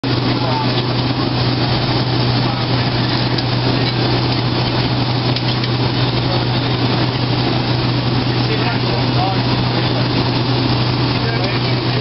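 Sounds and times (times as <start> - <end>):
airliner cabin air rush: 0.0 - 12.0
low cabin hum: 0.0 - 12.0.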